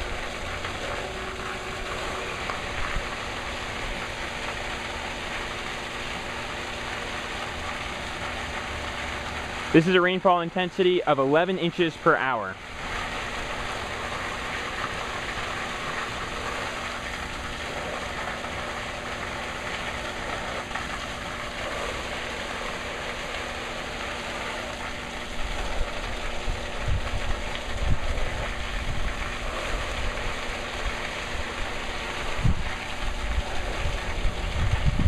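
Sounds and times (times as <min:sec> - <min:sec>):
faint steady hum: 0:00.0 - 0:35.0
water spraying onto concrete: 0:00.0 - 0:35.0.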